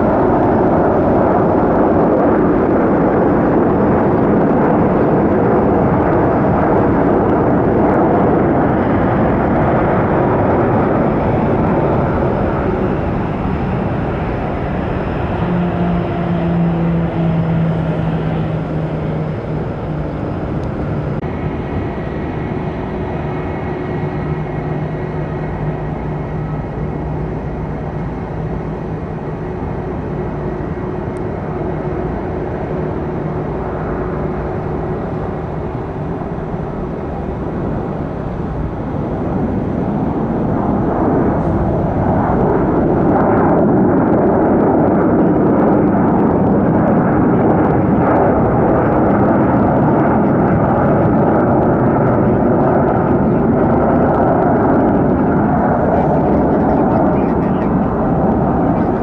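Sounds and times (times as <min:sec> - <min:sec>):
jet airliner engines: 0:00.0 - 0:59.0.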